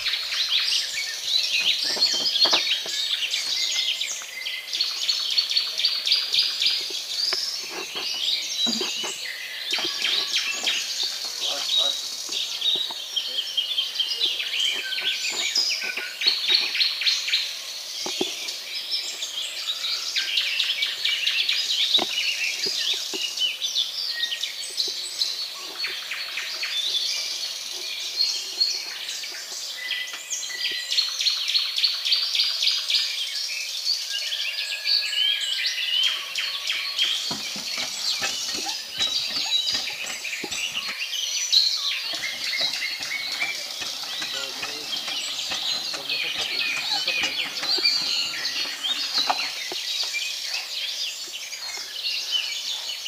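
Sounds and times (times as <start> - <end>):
small birds chirping: 0.0 - 34.3, 35.1 - 53.0.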